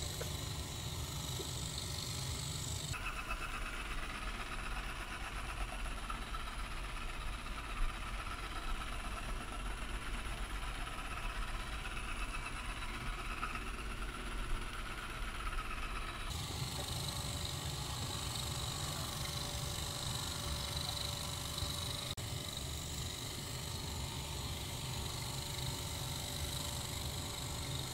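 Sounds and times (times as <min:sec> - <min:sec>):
robot vacuum whirring hum: 0:00.0 - 0:27.9.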